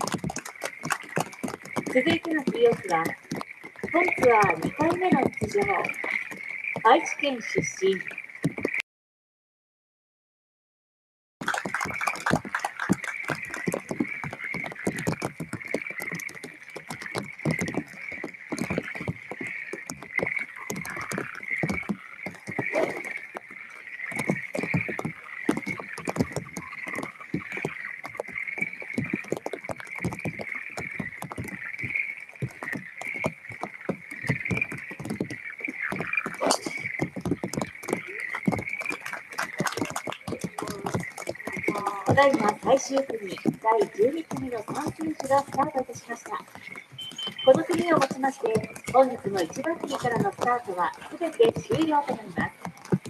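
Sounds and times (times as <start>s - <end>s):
dense crackling: 0.0s - 8.8s, 11.4s - 53.0s
frogs calling: 0.0s - 8.8s, 11.4s - 53.0s.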